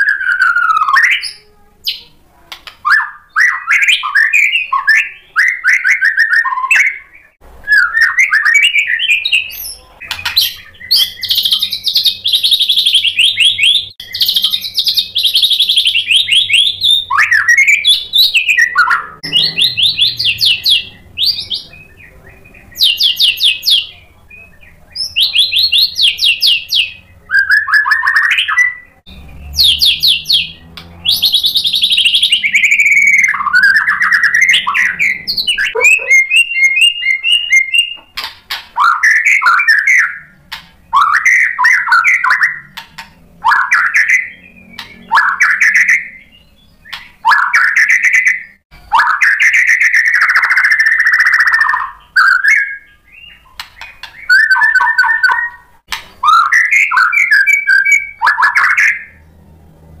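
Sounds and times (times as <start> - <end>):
bird singing whistled phrases: 0.0 - 2.1, 2.8 - 38.2, 43.4 - 59.2.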